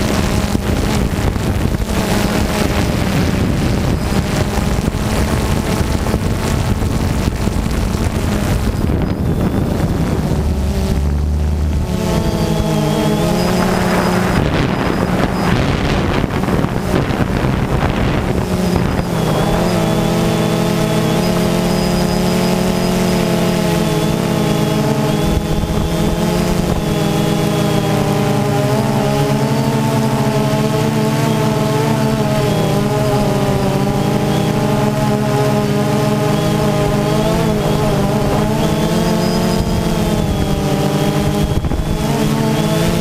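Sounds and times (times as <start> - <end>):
drone propellers whirring: 0.0 - 43.0
gusty wind noise: 0.0 - 43.0.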